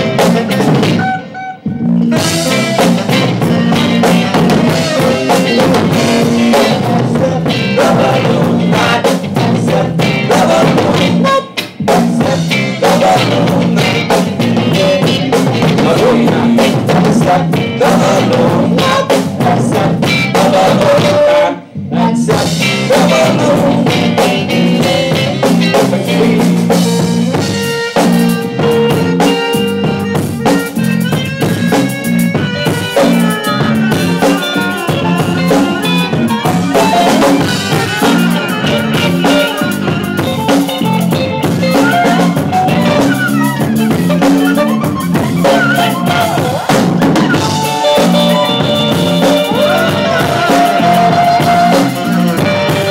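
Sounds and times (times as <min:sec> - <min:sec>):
drum kit: 0:00.0 - 0:21.5, 0:22.2 - 0:52.9
live band playing instrumental: 0:00.0 - 0:52.9.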